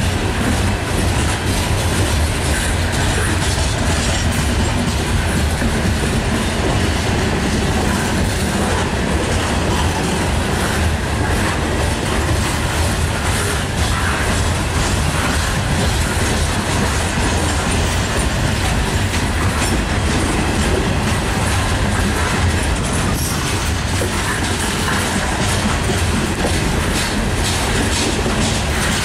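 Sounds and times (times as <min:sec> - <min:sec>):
train wheels rumbling on rails: 0:00.0 - 0:29.0
wheels clacking over rail joints: 0:00.0 - 0:29.0.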